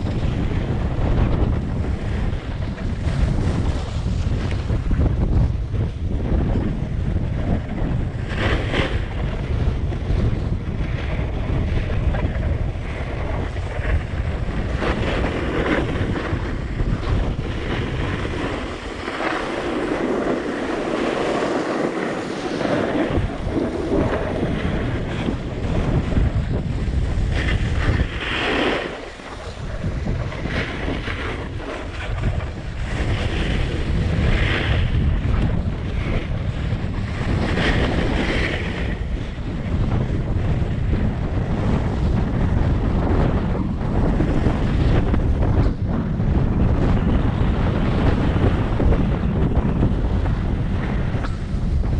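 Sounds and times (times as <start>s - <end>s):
snowboard scraping on snow: 0.0s - 51.9s
wind buffeting microphone: 0.0s - 51.9s.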